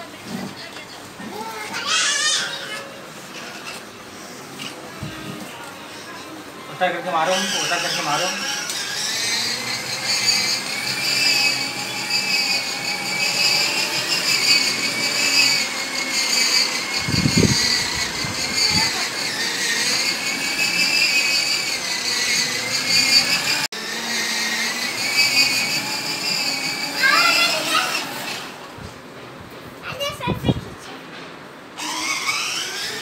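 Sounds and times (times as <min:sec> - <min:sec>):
toy motorcycle motor whining: 0:01.6 - 0:06.2, 0:06.8 - 0:28.6, 0:31.8 - 0:33.0.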